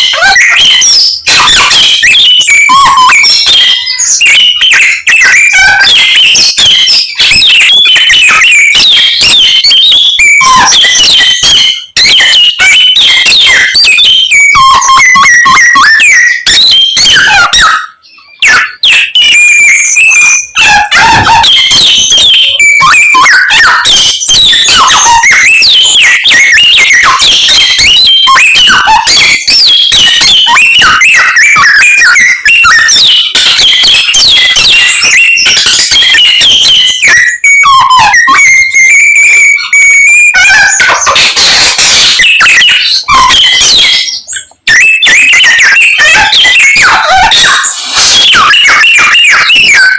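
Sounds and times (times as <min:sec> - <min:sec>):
songbird whistles chirps and trills: 0:00.0 - 0:49.9.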